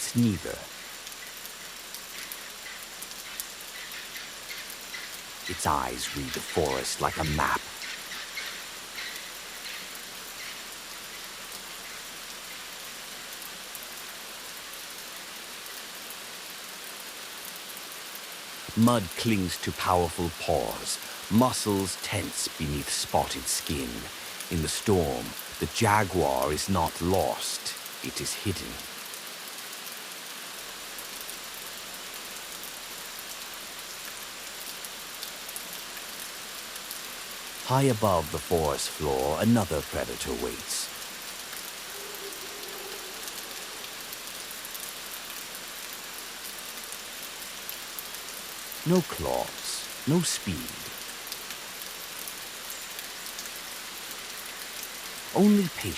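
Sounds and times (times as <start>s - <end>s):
rain on foliage: 0.0s - 55.9s.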